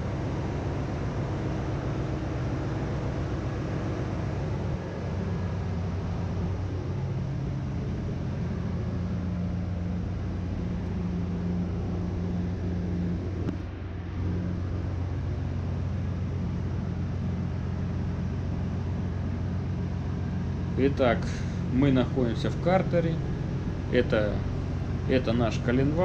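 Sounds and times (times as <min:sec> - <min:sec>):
engine-room machinery drone: 0:00.0 - 0:26.0.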